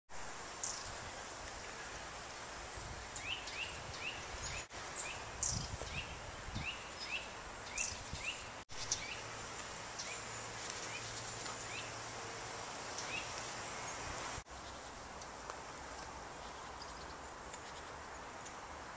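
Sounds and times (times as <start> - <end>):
outdoor ambience hiss: 0.1 - 18.9
songbirds chirping: 0.2 - 18.9.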